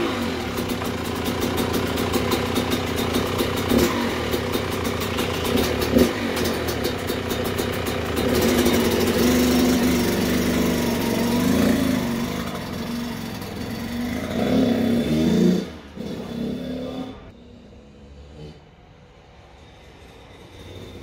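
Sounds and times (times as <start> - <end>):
dirt bike engine revving: 0.0 - 18.3.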